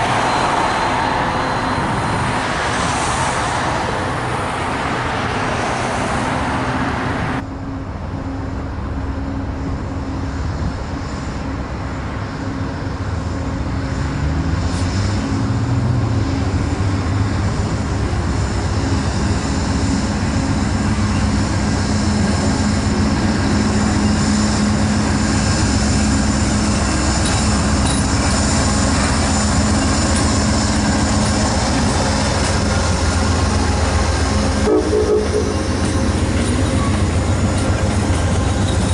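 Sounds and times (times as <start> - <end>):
diesel locomotive engine droning: 0.0 - 38.9.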